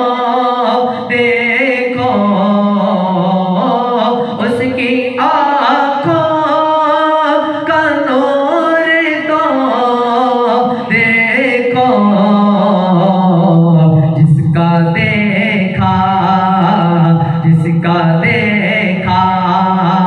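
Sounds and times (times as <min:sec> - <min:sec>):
man singing: 0:00.0 - 0:20.0.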